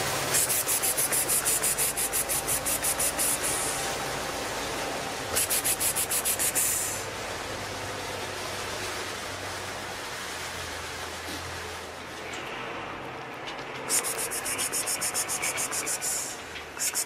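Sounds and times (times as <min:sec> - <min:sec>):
steady hiss: 0:00.0 - 0:12.2, 0:13.8 - 0:17.0.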